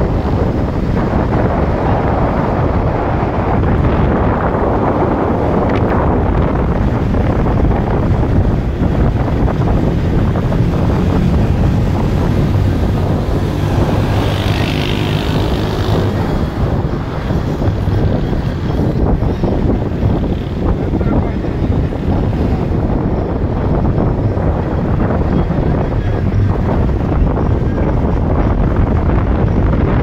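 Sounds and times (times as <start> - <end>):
car road and engine noise: 0.0 - 30.0
wind buffeting microphone: 0.0 - 30.0.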